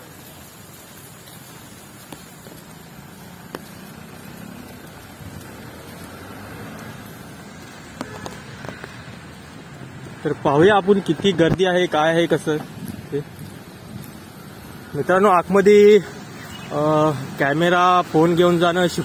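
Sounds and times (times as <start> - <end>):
traffic on a wet road: 0.0 - 19.0.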